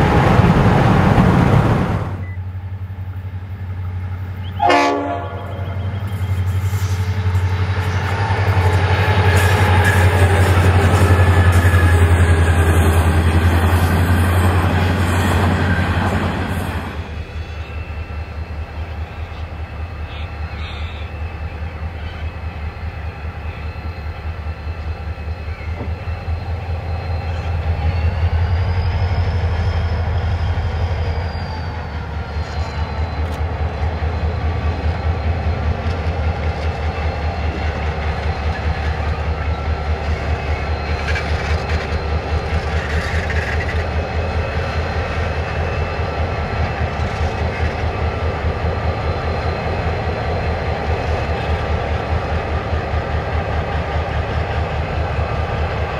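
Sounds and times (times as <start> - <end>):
diesel locomotives throbbing: 0.0 - 55.9.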